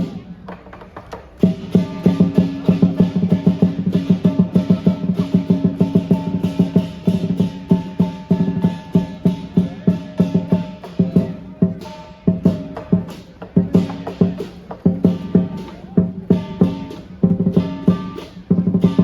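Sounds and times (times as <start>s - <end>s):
cymbals clashing: 0.0s - 0.4s, 1.3s - 19.0s
big drum beating: 0.0s - 19.0s.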